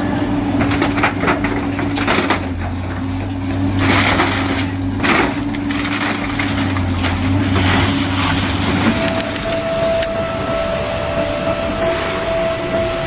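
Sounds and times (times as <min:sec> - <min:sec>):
shredding machine droning: 0:00.0 - 0:13.0.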